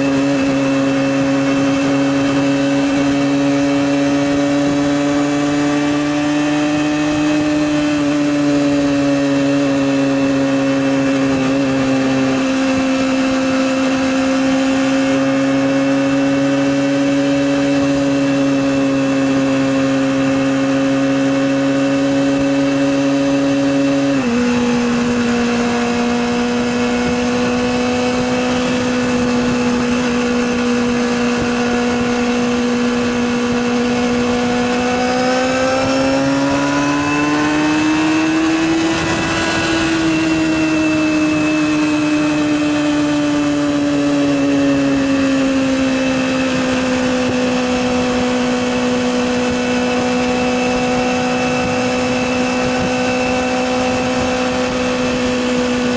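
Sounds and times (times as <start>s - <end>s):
motorcycle engine running high pitch: 0.0s - 55.9s.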